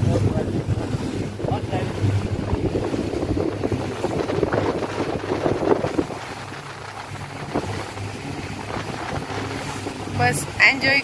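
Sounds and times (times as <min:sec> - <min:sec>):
speedboat engine hum: 0:00.0 - 0:11.0
water splashing along hull: 0:00.0 - 0:11.0
wind buffeting microphone: 0:00.0 - 0:11.0.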